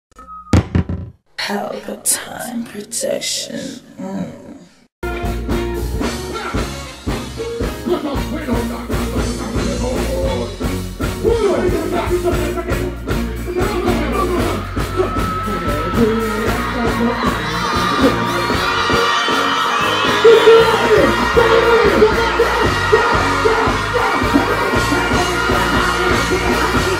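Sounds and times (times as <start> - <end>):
dancehall music: 5.0 - 26.9.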